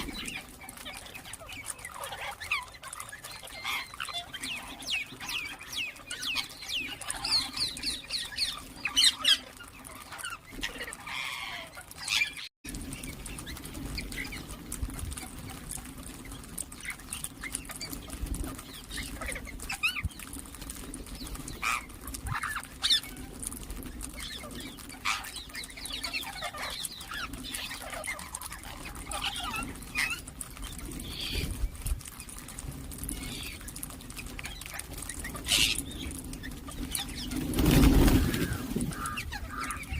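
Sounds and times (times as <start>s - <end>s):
parakeets chirping and calling: 0.0s - 39.9s.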